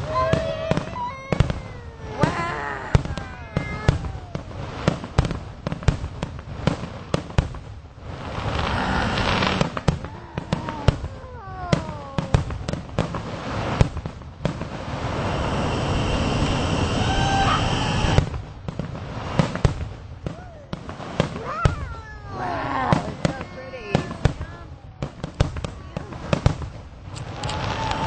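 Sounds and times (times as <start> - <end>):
fireworks falling whistles: 0.0 - 22.1, 22.9 - 28.0
fireworks bangs and pops: 0.0 - 28.0
fireworks crackling: 0.0 - 28.0.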